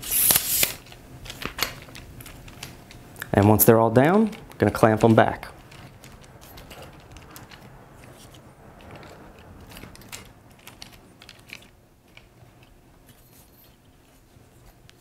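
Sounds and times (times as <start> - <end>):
tripod legs rattling: 0.0 - 15.0.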